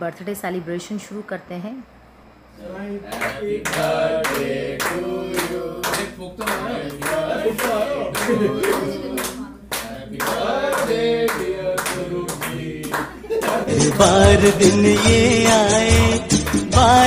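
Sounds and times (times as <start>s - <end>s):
group singing a birthday song: 2.4s - 17.0s
group clapping in time: 3.1s - 17.0s.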